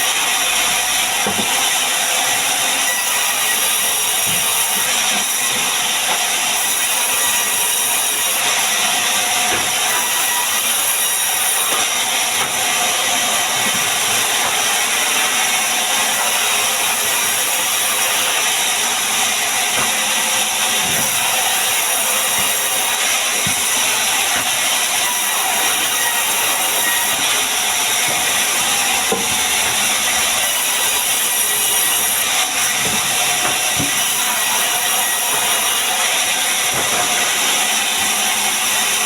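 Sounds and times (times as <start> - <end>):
power tool working wood: 0.0 - 39.0.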